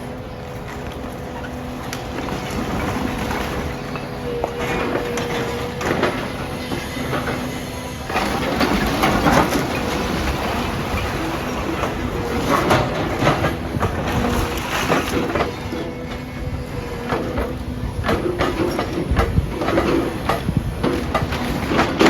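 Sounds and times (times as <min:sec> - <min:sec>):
demolition machinery crunching concrete: 0:00.0 - 0:22.0.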